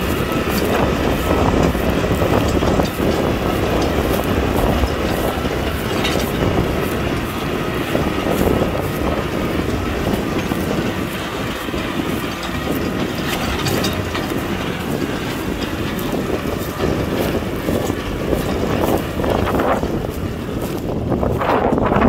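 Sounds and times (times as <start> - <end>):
clanks and rattles: 0.0 - 22.0
tractor diesel engine running: 0.0 - 22.0.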